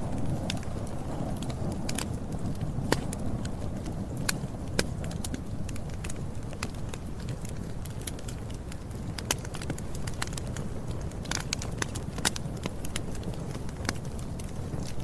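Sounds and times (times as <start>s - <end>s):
campfire crackling: 0.0s - 15.0s
low rumble of burning fire: 0.0s - 15.0s.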